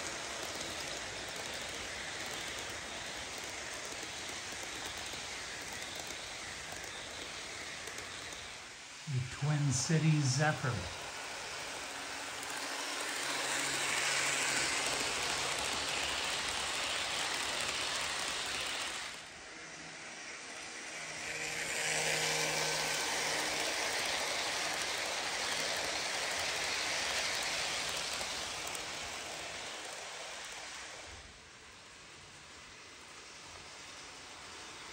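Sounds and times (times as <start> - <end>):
model train wheels clattering: 0.0 - 9.0, 10.9 - 34.9.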